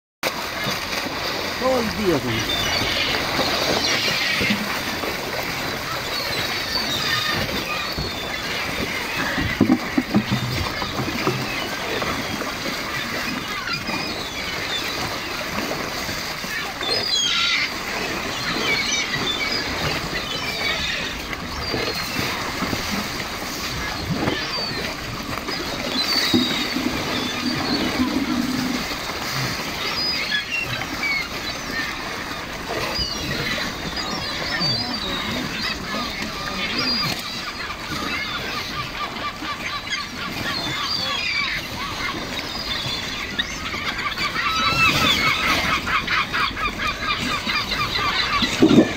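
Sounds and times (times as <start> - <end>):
water splashing and churning: 0.2 - 48.9
gulls crying: 0.3 - 48.9.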